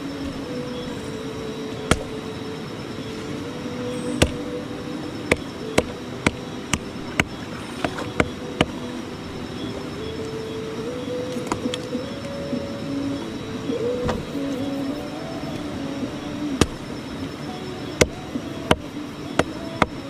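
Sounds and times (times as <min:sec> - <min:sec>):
slow background music: 0:00.0 - 0:20.0.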